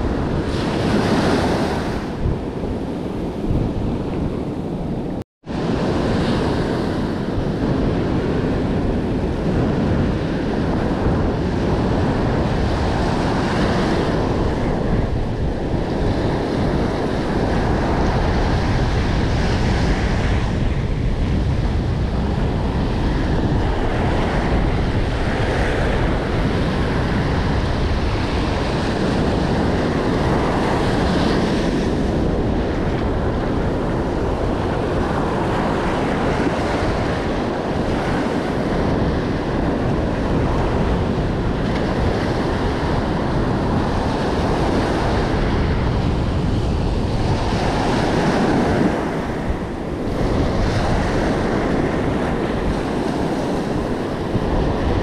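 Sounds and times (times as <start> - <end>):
ocean surf breaking on beach: 0.0 - 55.0
wind buffeting microphone: 0.0 - 55.0.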